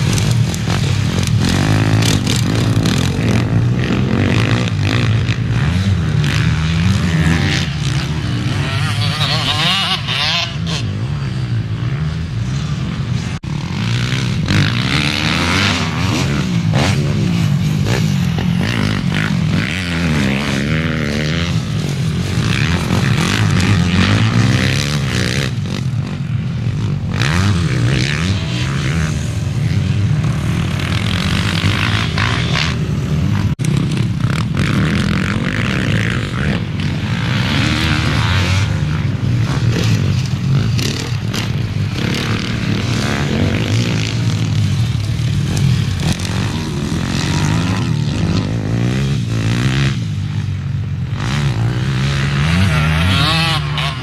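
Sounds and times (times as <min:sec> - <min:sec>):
racing motorcycle engines revving: 0:00.0 - 0:54.0.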